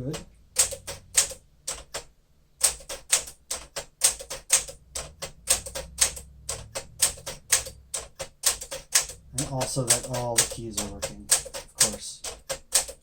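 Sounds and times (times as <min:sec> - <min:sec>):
manual typewriter typing: 0:00.0 - 0:13.0.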